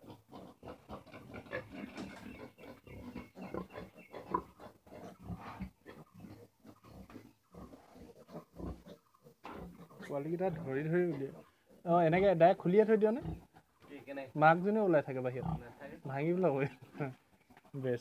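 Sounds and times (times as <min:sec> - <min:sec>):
pigs grunting: 0:00.0 - 0:17.8.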